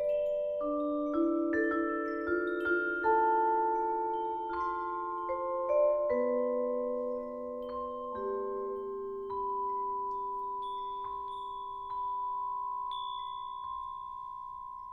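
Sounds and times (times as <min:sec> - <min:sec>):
vibraphone notes ringing: 0:00.0 - 0:14.9.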